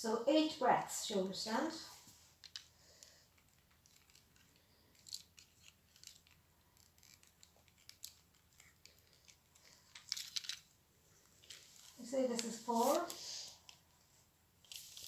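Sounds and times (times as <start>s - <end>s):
faint clicks and rustles: 1.9s - 15.0s.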